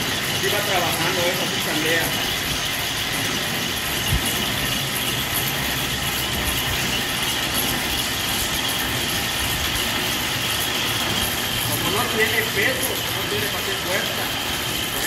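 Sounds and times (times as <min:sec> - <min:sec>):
baling press mechanical hum: 0:00.0 - 0:15.0.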